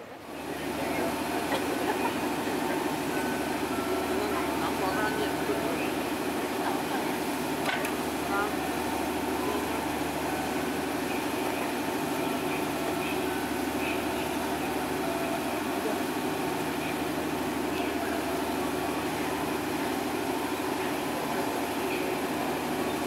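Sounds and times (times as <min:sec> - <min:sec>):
diesel engines idling: 0:00.0 - 0:23.0
faint chatter: 0:00.0 - 0:23.0.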